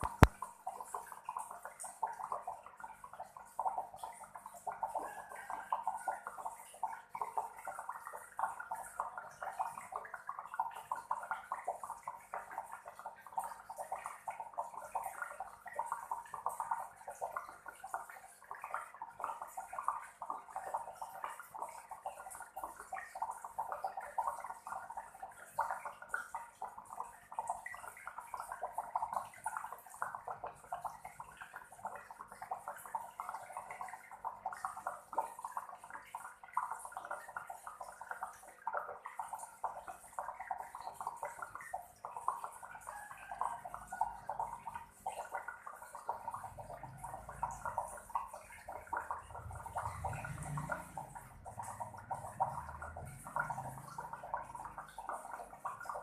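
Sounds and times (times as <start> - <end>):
water bubbling and gurgling: 0.0 - 56.0.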